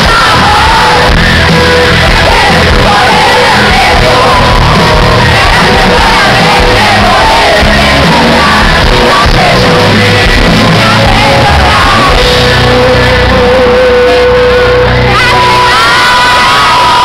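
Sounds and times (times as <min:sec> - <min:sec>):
live pop band playing: 0:00.0 - 0:17.0
man singing into a microphone: 0:00.0 - 0:17.0.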